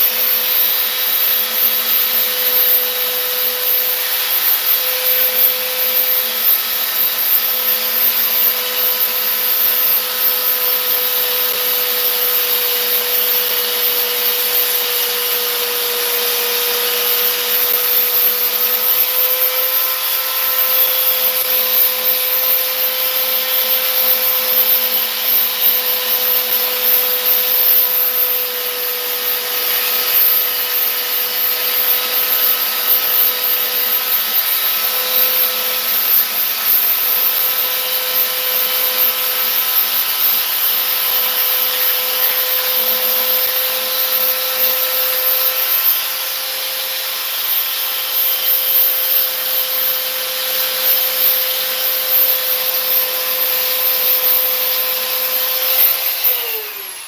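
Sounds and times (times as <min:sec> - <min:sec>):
abrasive hissing on surface: 0:00.0 - 0:57.0
power sander whining: 0:00.0 - 0:57.0.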